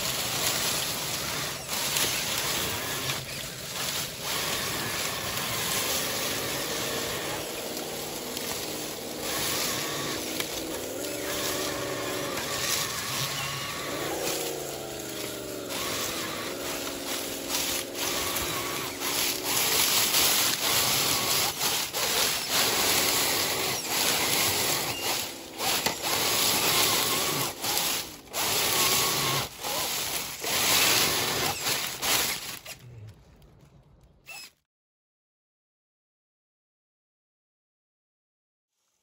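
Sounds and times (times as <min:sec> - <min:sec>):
faint electric motor whine: 0:00.0 - 0:33.0
leaves crackling and rustling: 0:00.0 - 0:34.2.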